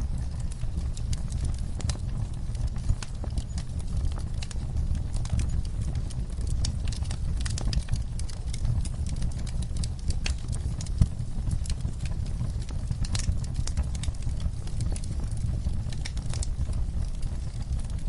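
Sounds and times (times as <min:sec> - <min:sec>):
low rumble of flame: 0:00.0 - 0:18.0
wood fire crackling and popping: 0:00.0 - 0:18.0.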